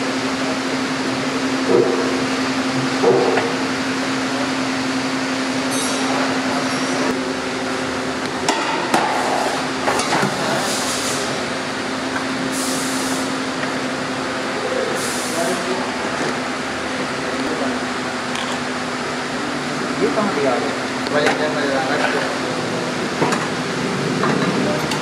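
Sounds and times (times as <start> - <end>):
electric fan humming: 0.0 - 25.0.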